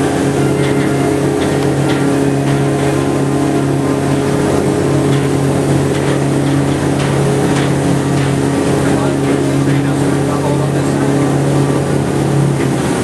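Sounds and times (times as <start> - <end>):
boat engine droning: 0.0 - 13.0
water rushing along a hull: 0.0 - 13.0.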